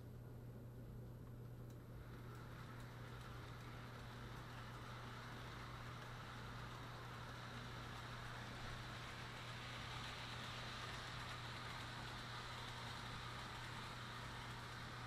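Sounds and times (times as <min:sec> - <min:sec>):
constant low hum: 0:00.0 - 0:15.0
model train motor whirring: 0:02.0 - 0:15.0.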